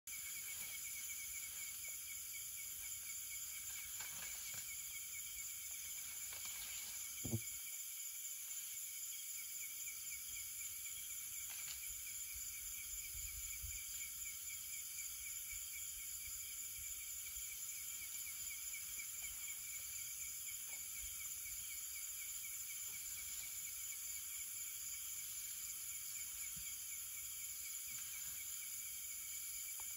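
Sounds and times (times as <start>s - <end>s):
crickets and insects trilling: 0.1s - 29.9s.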